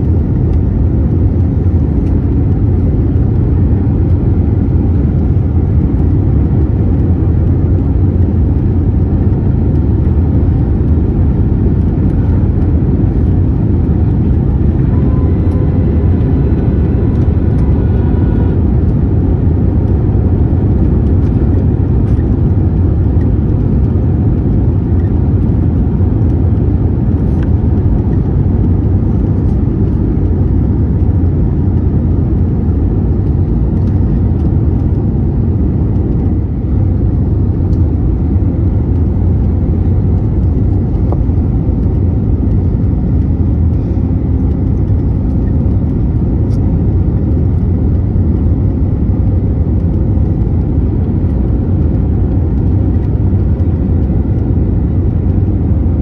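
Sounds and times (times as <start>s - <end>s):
airliner cabin roar: 0.0s - 56.0s.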